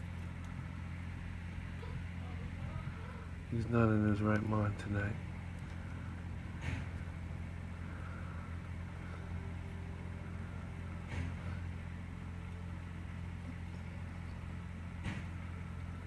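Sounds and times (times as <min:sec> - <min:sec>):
generator engine hum: 0:00.0 - 0:16.0.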